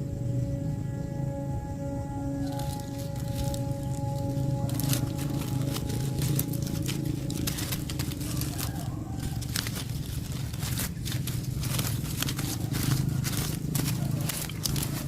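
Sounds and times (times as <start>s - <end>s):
steady low hum: 0.0s - 15.0s
crackling and rustling clicks: 2.4s - 15.0s.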